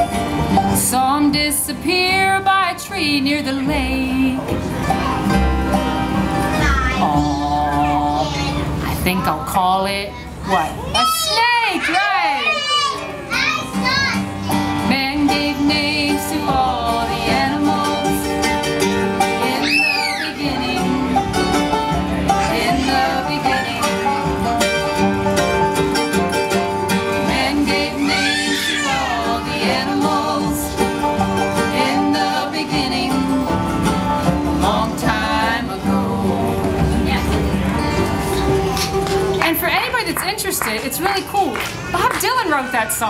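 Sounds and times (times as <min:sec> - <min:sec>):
acoustic bluegrass band playing: 0:00.0 - 0:43.0.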